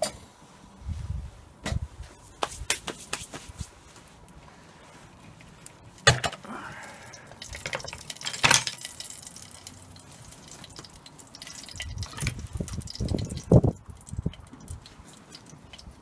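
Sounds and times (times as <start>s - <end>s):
wood fire crackling and popping: 2.3s - 16.0s.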